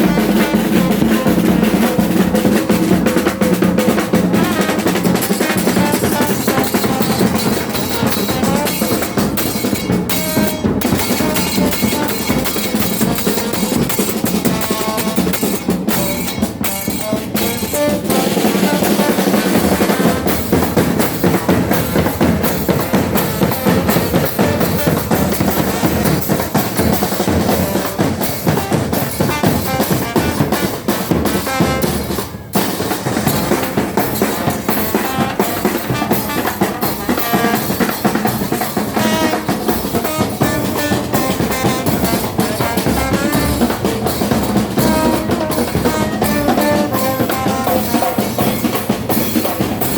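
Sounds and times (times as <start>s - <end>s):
drums with bass drum: 0.0s - 49.9s
wind instruments playing: 0.0s - 49.9s.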